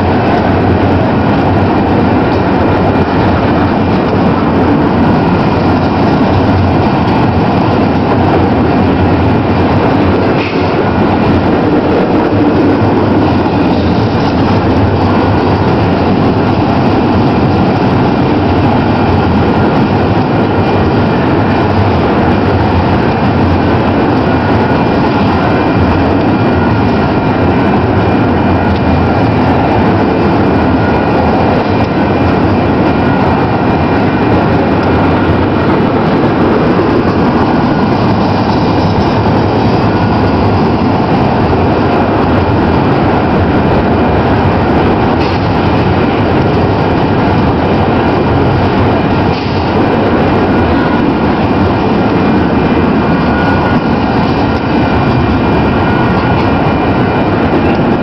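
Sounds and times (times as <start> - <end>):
steel wheels rolling on rail: 0.0 - 58.0.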